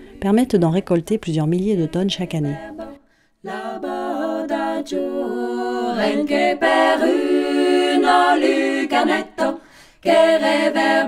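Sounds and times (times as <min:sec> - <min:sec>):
a cappella choir singing: 0:00.0 - 0:00.8, 0:01.6 - 0:11.0.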